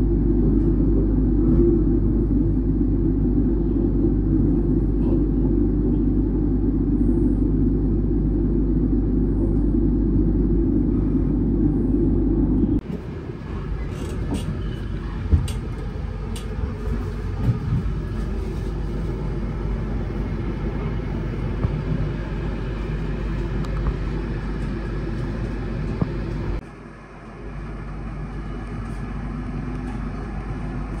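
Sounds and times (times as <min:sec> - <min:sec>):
passenger train rumbling: 0:00.0 - 0:31.0.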